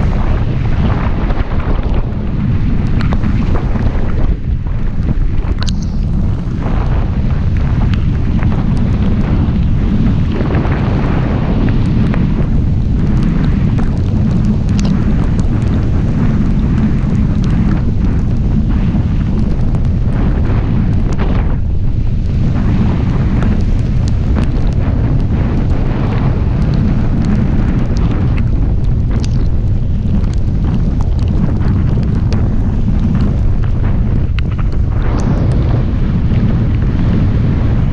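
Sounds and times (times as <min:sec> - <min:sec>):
rain ticks: 0:00.0 - 0:37.9
wind buffeting microphone: 0:00.0 - 0:37.9.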